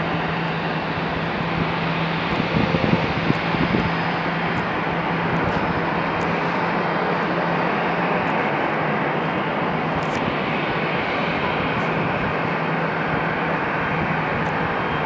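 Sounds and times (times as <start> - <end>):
constant low hum: 0.0 - 15.0
jet aircraft rushing: 0.0 - 15.0.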